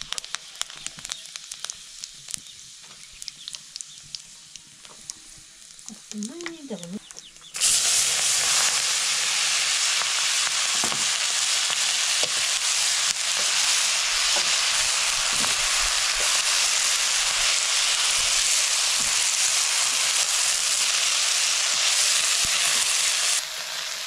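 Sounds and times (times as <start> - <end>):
cabbage sizzling in hot oil: 0.0 - 24.0.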